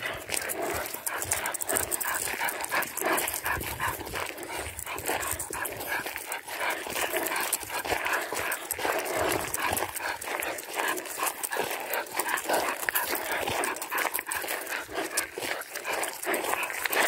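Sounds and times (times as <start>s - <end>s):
footsteps on gravel: 0.0s - 17.0s
puppy panting: 0.0s - 17.0s.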